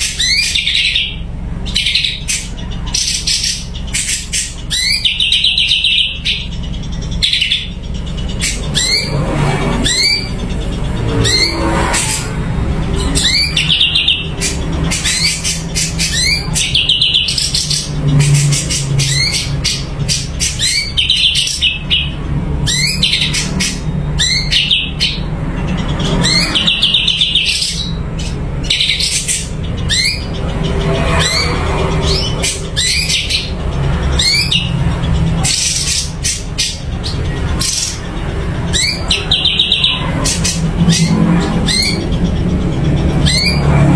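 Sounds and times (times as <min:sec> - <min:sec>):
songbird whistling and trilling: 0:00.0 - 0:09.2, 0:09.8 - 0:11.6, 0:13.0 - 0:43.9.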